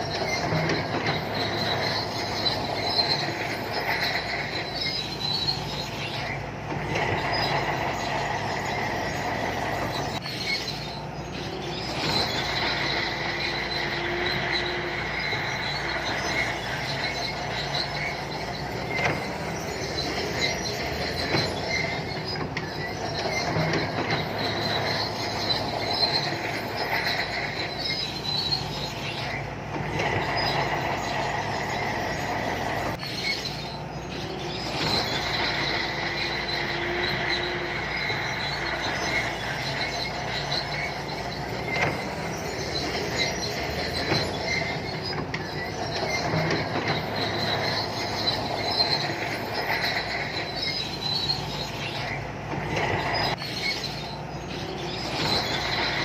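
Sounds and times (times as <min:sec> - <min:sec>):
bulldozer diesel engine running: 0:00.0 - 0:56.0
steel tracks squealing: 0:00.0 - 0:56.0.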